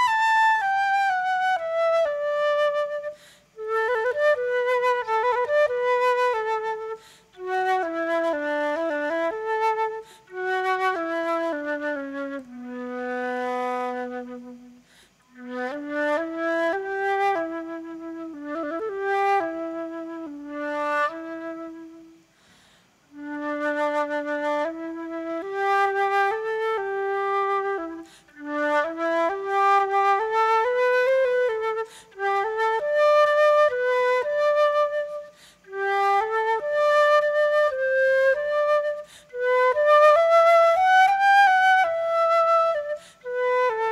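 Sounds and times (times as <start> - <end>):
solo flute melody: 0.0 - 43.9.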